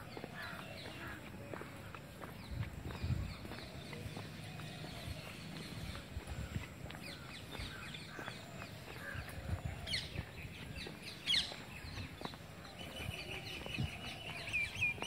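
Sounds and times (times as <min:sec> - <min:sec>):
birds chirping: 0:00.0 - 0:15.0
soft footsteps: 0:00.0 - 0:15.0.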